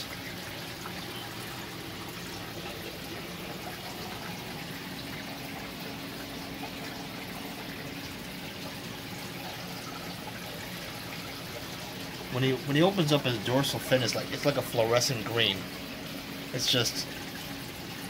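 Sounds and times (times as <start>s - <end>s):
running and trickling water: 0.0s - 18.0s.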